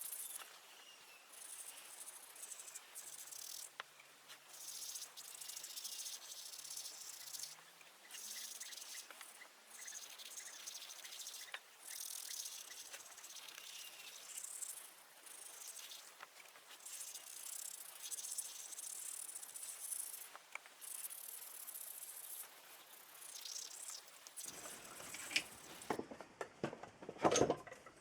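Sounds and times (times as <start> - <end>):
arc welding crackling sizzle: 0.0 - 26.0.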